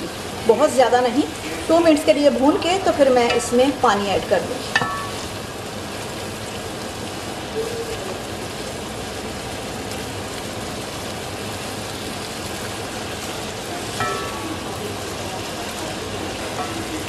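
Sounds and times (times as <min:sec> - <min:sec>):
meat sizzling in a pot: 0:00.0 - 0:17.0.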